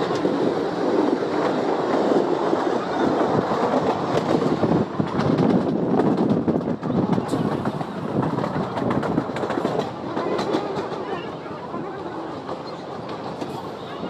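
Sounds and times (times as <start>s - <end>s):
passing train rumble and rattle: 0.0s - 14.0s
wheels clattering over rail joints: 0.0s - 14.0s.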